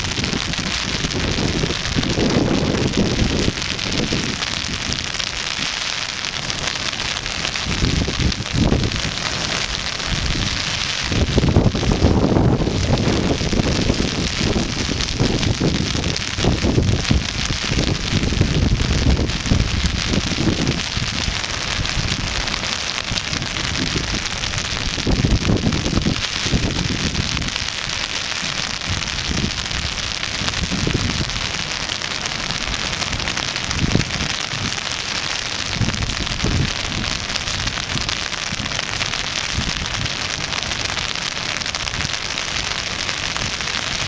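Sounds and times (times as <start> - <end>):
low rumbles: 0.0 - 41.0
steady rain: 0.0 - 44.0
wind buffeting microphone: 0.0 - 44.0.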